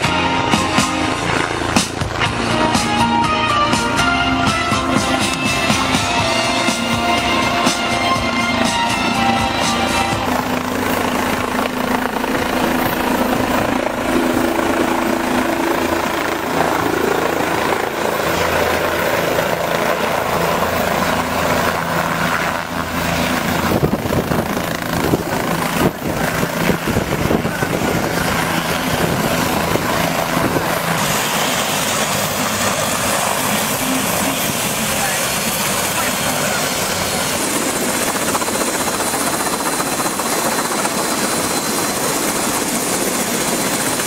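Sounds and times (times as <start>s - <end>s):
helicopter rotor and turbine: 0.0s - 44.0s.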